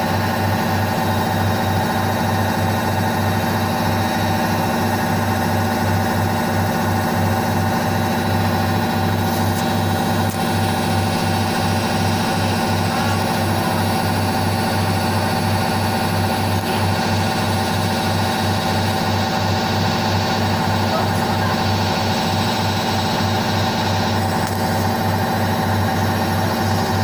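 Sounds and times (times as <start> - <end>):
washing machine running: 0.0 - 27.0.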